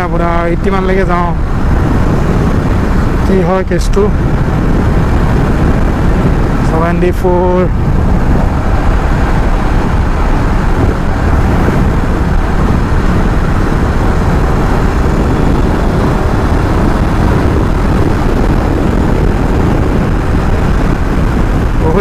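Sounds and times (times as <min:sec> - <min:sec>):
wind and road noise: 0:00.0 - 0:22.0
motorcycle engine running: 0:04.2 - 0:22.0.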